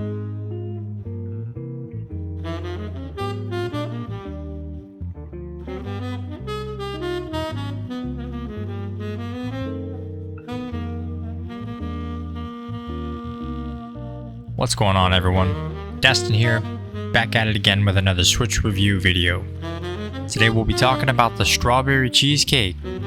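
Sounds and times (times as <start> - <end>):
saxophone: 0.0 - 23.0
walking bass line: 0.0 - 23.0.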